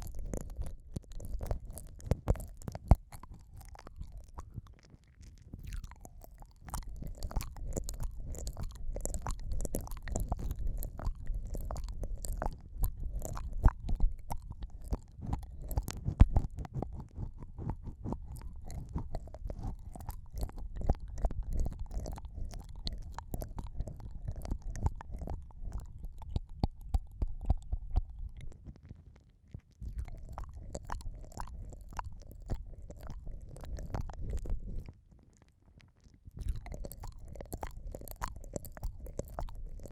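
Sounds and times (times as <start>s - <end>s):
wet mouth sounds on microphone: 0.0s - 39.9s.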